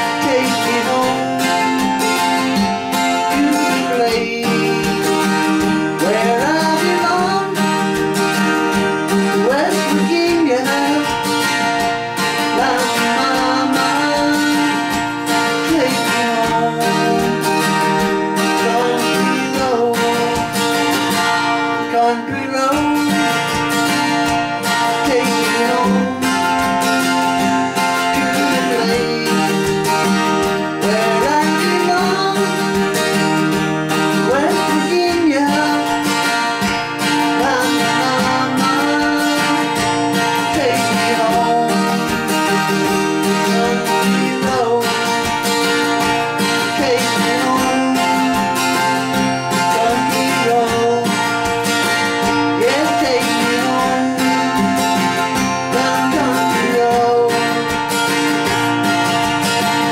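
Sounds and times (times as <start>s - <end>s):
acoustic guitar strumming: 0.0s - 59.9s
man singing: 0.0s - 59.9s.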